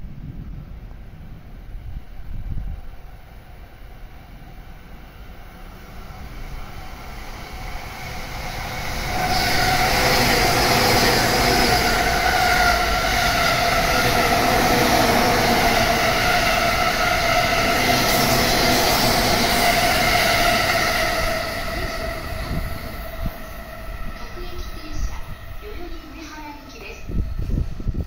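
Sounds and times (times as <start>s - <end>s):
train passing at high speed: 0.0s - 28.0s.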